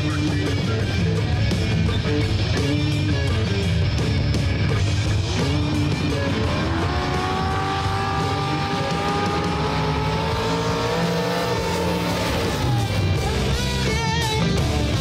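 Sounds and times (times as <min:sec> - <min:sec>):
racing engines revving: 0:00.0 - 0:15.0
rock music: 0:00.0 - 0:15.0.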